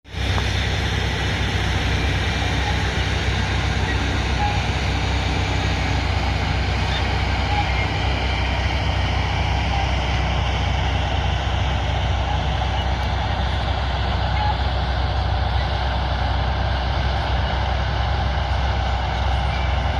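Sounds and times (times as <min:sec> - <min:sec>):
diesel engine running under load: 0:00.0 - 0:19.9.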